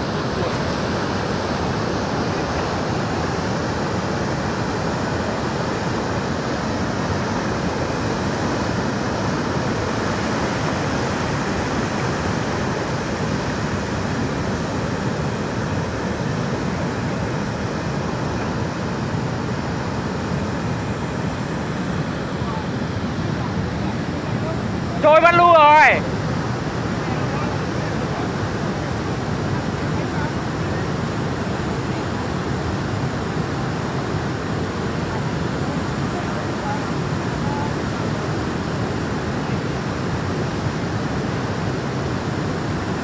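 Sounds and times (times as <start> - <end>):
floodwater rushing down a channel: 0.0 - 43.0.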